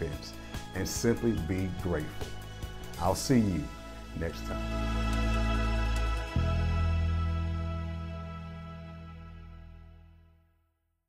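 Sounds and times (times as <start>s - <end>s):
background music held chord: 0.0s - 10.6s.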